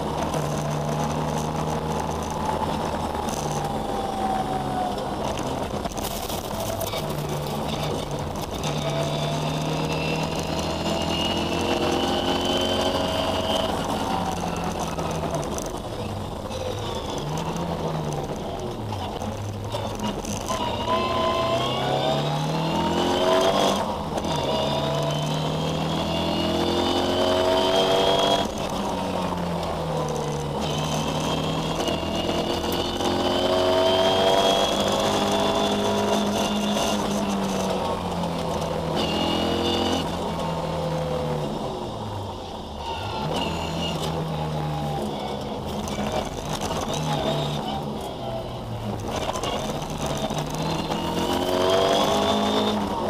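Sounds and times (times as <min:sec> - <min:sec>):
car engine accelerating through gears: 0:00.0 - 0:53.0.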